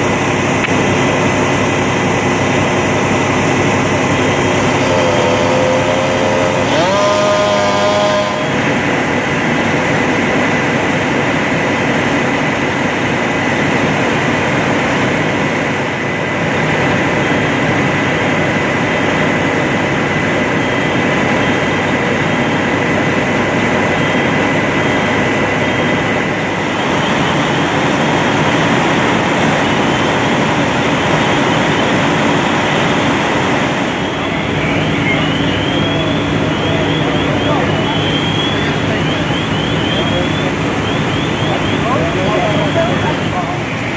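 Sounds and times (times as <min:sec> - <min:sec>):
engine-driven equipment running: 0:00.0 - 0:43.9
thin high whine: 0:00.0 - 0:43.9.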